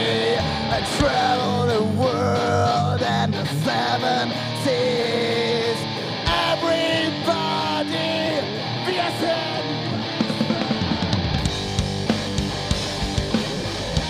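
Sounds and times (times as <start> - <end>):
bass: 0.0 - 14.0
guitar melody: 0.0 - 14.0.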